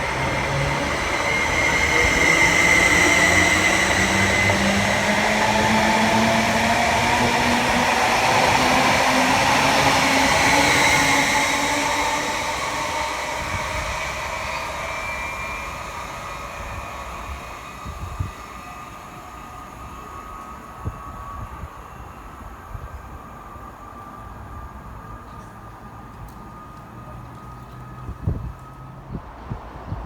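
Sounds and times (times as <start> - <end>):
train passing: 0.0 - 30.0.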